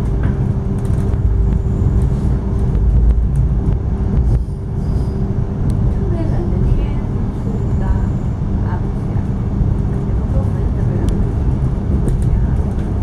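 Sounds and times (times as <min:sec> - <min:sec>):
steady hum: 0:00.0 - 0:13.0
train rumbling along track: 0:00.0 - 0:13.0.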